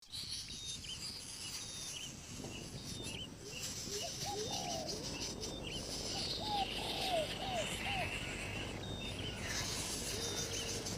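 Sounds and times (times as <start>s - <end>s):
bird whistling and chirping: 0.1s - 10.9s.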